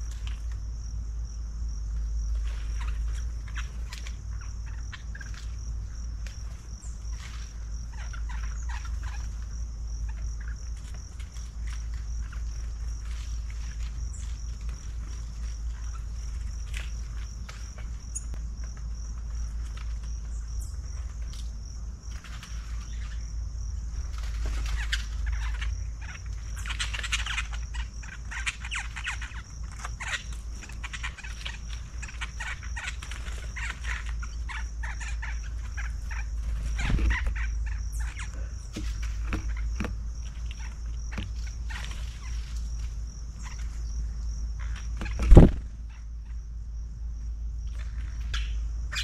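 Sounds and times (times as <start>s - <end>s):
constant low rumble: 0.0s - 49.0s
small birds chirping: 0.0s - 49.0s.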